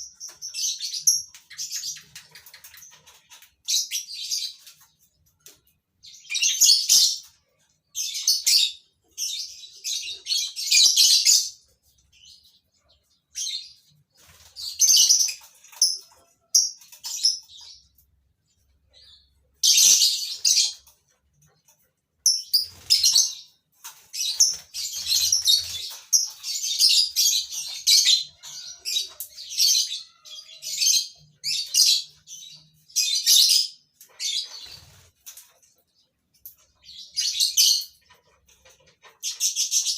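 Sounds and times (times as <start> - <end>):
lovebirds chirping and screeching: 0.0 - 39.9.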